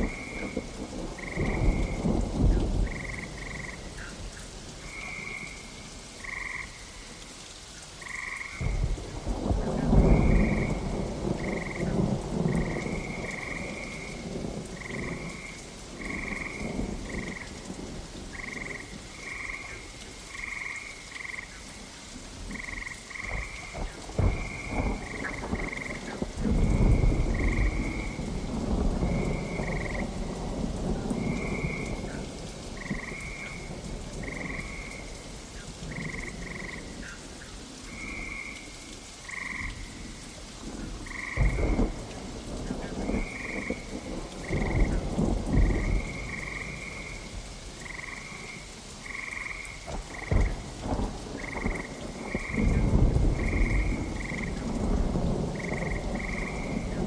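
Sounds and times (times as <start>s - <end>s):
thunder rumbling: 0.0s - 4.0s, 8.6s - 20.6s, 22.4s - 37.0s, 39.2s - 57.0s
frogs croaking: 0.0s - 57.0s
steady rain: 0.0s - 57.0s.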